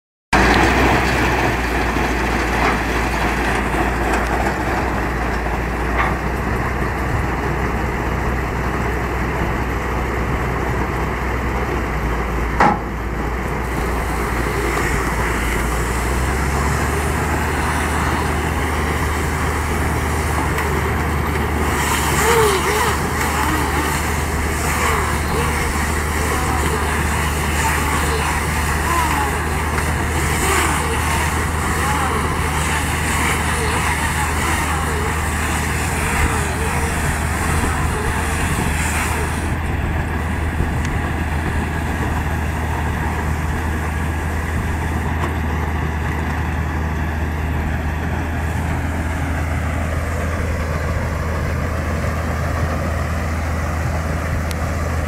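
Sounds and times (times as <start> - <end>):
tractor running: 0.3 - 55.0.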